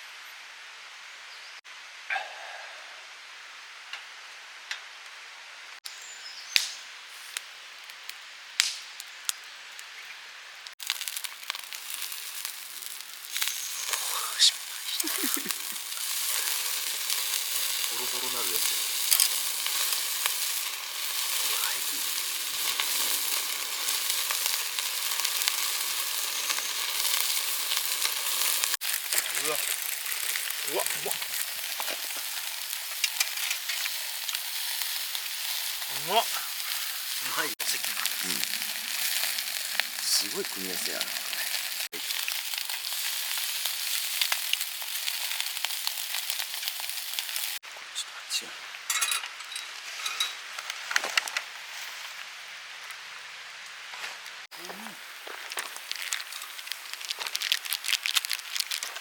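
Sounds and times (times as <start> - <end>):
food frying with crackles: 3.2 - 47.9, 48.6 - 59.0.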